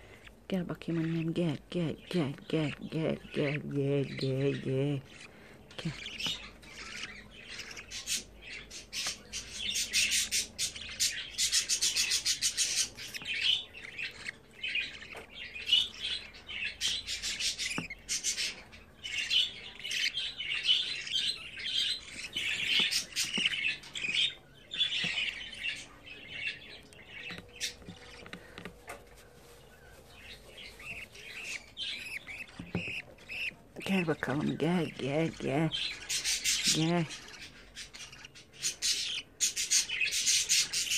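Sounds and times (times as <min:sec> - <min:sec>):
bird chick begging chirps: 0:00.1 - 0:40.9.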